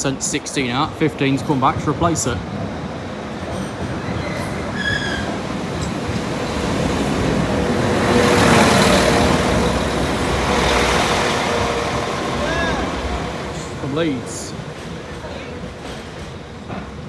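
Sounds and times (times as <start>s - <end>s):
train passing close by: 0.0s - 17.0s.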